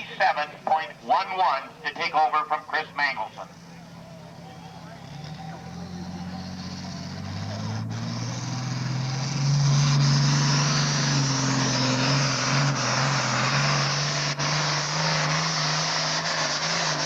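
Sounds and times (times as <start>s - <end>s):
tractor diesel engine at full throttle: 0.0s - 17.0s.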